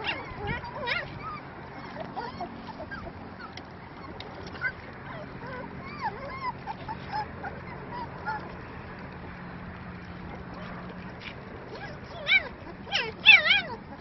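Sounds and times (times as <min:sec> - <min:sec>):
puppies whimpering and squeaking: 0:00.0 - 0:09.0, 0:10.0 - 0:14.0.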